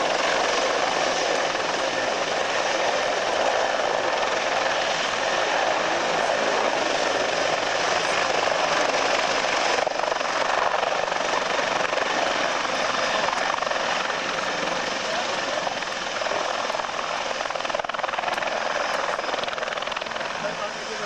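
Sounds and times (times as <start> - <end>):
helicopter hovering: 0.0 - 21.0.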